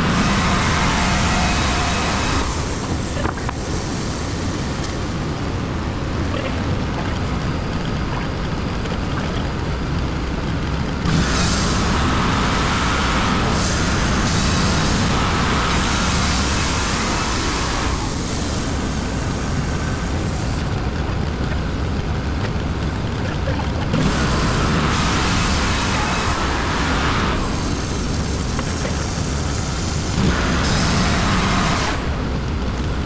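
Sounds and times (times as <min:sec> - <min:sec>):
gas engine running: 0:00.0 - 0:33.0.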